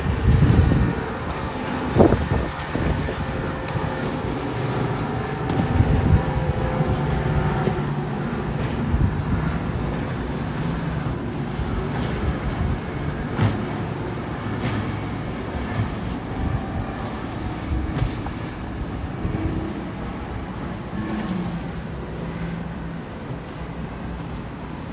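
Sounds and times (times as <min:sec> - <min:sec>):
powerboat engines rumbling: 0:00.0 - 0:24.9.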